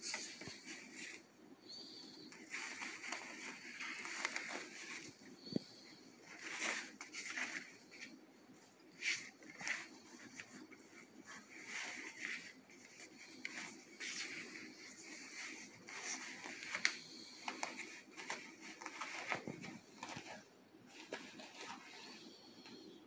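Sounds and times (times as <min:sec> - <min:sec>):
cloth rustling and scratching: 0:00.0 - 0:22.8.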